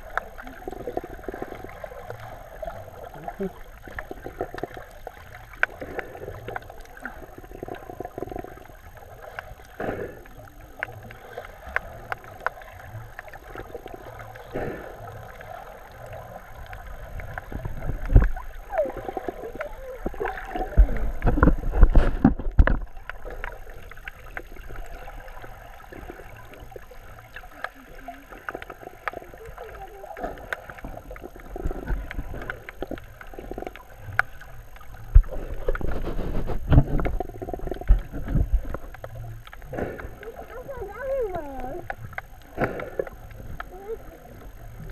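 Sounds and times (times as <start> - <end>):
low rumbling and gurgling: 0.0 - 44.9
muffled water moving underwater: 0.0 - 44.9
small underwater clicks and crackles: 0.0 - 44.9.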